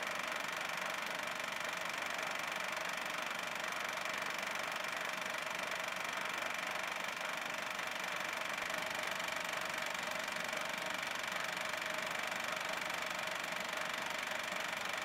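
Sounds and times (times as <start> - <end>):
film projector running: 0.0 - 15.0.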